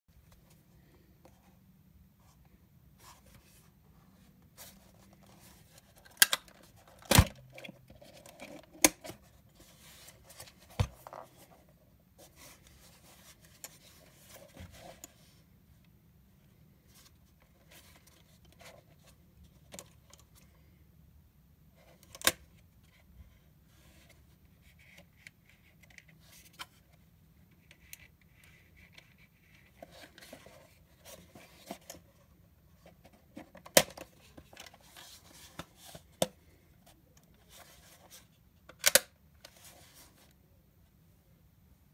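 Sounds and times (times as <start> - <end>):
soft rubbing handling noise: 0.1 - 7.0, 7.6 - 20.6, 22.6 - 38.7, 39.4 - 40.7.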